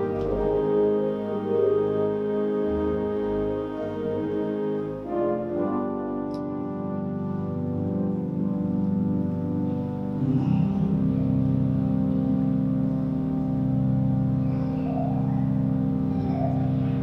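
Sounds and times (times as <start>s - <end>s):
slow organ-like chords: 0.0s - 17.0s.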